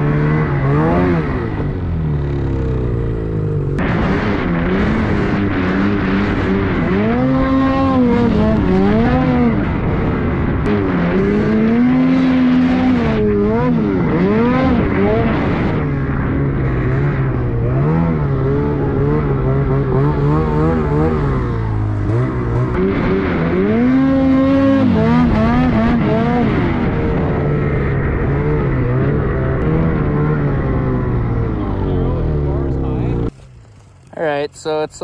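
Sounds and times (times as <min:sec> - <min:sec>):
snowmobile engine revving: 0:00.0 - 0:33.4.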